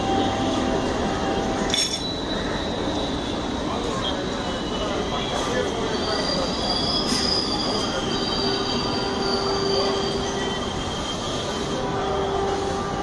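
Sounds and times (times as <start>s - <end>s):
train coaches running: 0.0s - 13.0s
train wheels squealing on rails: 0.0s - 13.0s.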